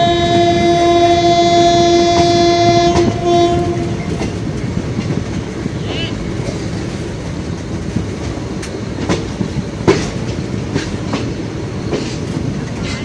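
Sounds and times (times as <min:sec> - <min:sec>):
train rumbling on track: 0:00.0 - 0:13.0
wheels clacking over rail joints: 0:00.0 - 0:13.0.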